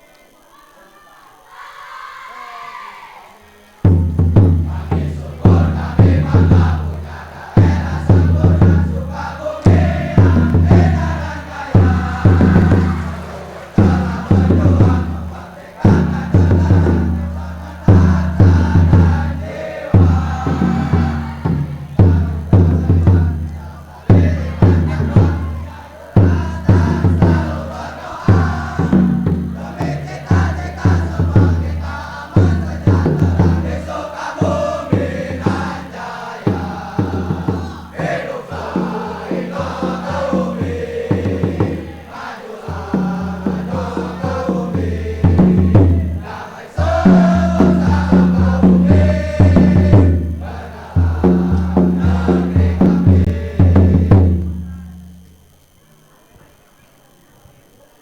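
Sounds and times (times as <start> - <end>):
male choir singing in unison: 2.0 - 54.8.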